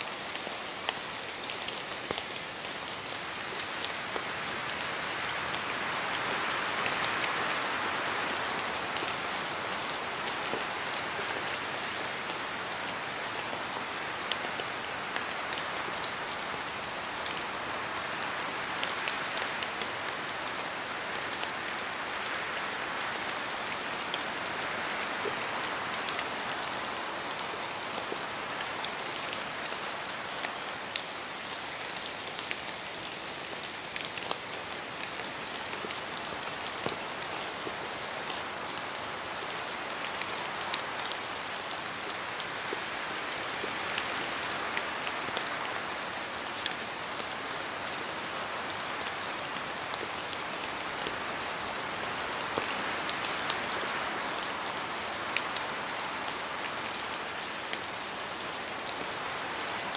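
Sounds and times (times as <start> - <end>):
rain falling: 0.0 - 59.9
raindrops ticking on surfaces: 0.0 - 59.9.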